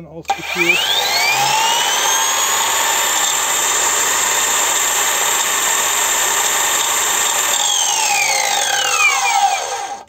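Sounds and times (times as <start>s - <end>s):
angle grinder high whine: 0.3s - 10.0s.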